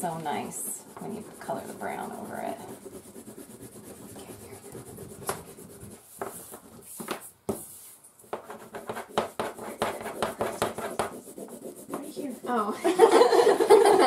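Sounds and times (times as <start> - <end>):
crayons scribbling on paper: 0.0 - 12.8.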